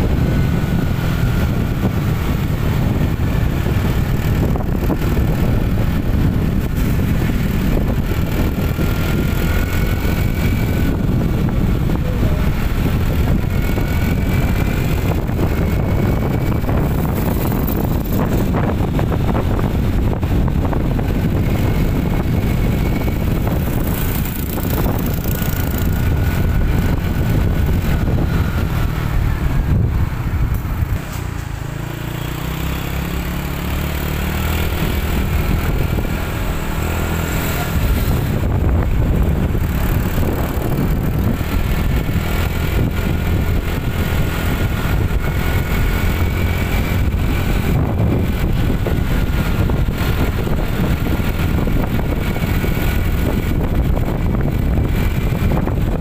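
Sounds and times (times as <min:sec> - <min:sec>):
vehicle engine running: 0:00.0 - 0:56.0
wind on microphone: 0:00.0 - 0:56.0.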